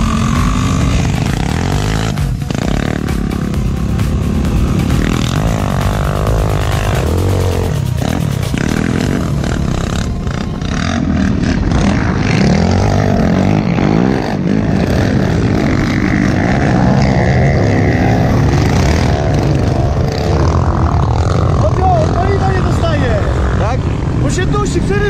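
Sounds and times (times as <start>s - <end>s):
quad engines revving: 0.0s - 25.0s.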